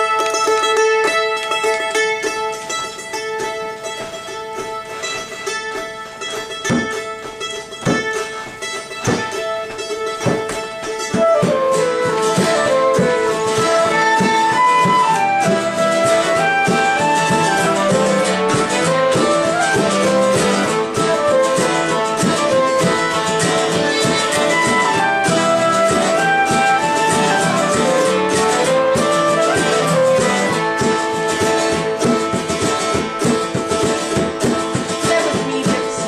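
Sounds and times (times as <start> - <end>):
folk band playing melody: 0.0 - 36.0
mandolin tremolo picking: 0.0 - 36.0.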